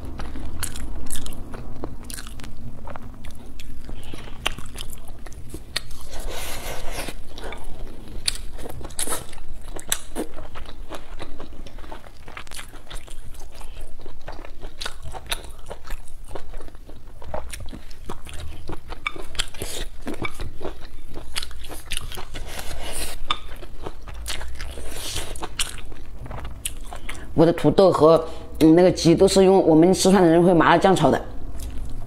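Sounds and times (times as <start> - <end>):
chewing and crunching food: 0.0 - 27.6.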